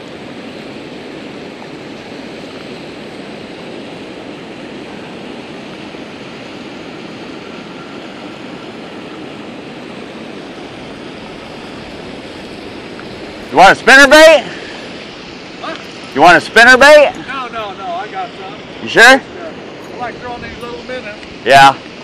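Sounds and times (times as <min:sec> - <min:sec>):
water rushing over dam spillway: 0:00.0 - 0:22.0.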